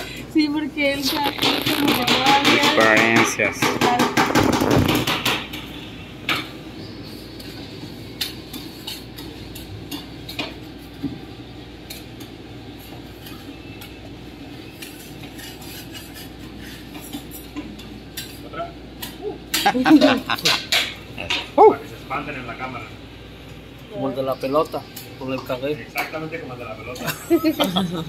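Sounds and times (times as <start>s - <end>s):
steady low hum: 4.5s - 28.0s.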